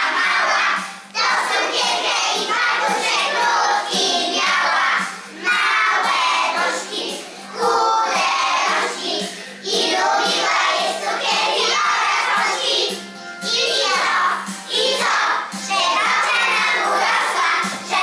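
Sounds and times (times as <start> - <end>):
children singing: 0.0 - 18.0.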